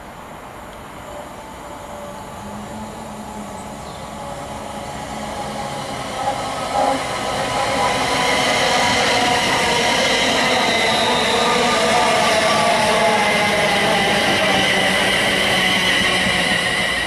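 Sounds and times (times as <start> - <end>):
train wheels rumbling on rails: 0.4 - 17.0.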